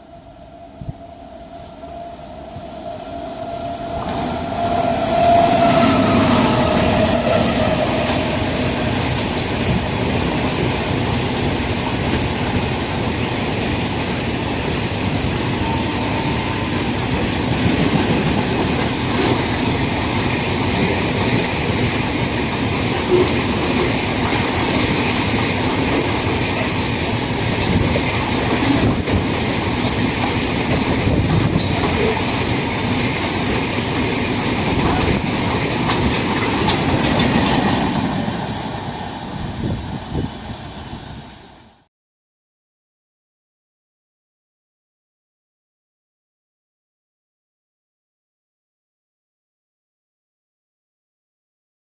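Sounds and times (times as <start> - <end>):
train running on rails: 0.0 - 41.9.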